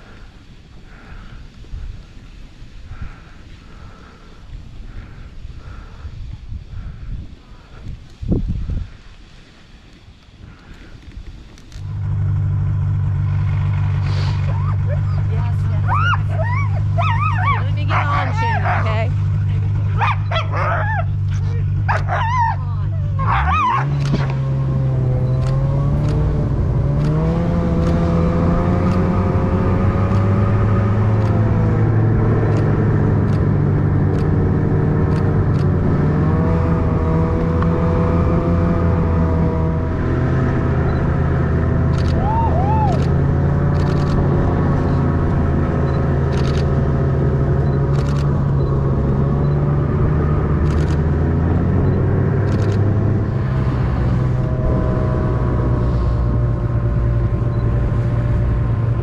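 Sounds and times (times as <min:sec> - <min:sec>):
snowmobile engine running: 0:10.5 - 0:59.0.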